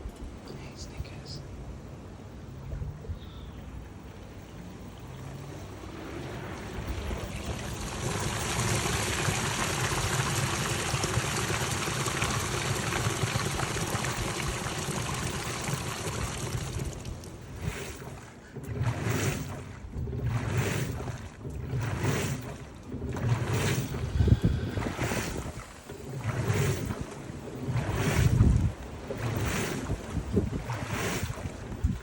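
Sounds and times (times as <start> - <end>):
water sloshing: 2.0 - 32.0
water rushing into washing machine: 4.1 - 32.0.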